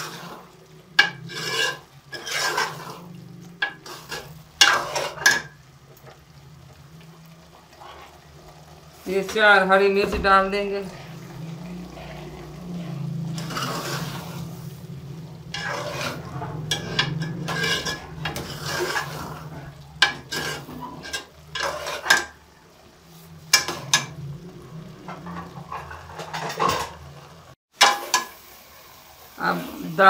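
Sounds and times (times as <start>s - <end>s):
ladle scraping metal pot: 0.0s - 6.2s, 7.4s - 22.4s, 23.0s - 28.2s
food sizzling: 0.0s - 30.0s.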